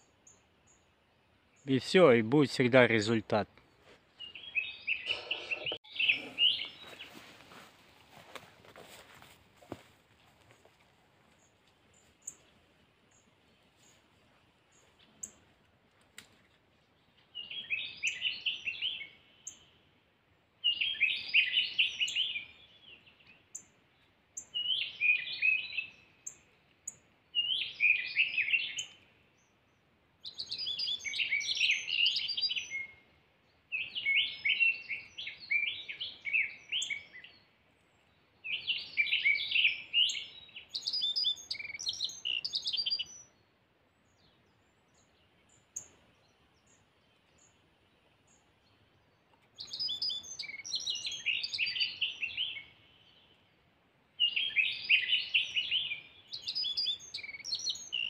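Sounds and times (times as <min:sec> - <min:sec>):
bird twittering song: 0:00.0 - 0:07.4, 0:11.4 - 0:14.1, 0:14.7 - 0:15.5, 0:16.9 - 0:19.9, 0:20.6 - 0:58.0.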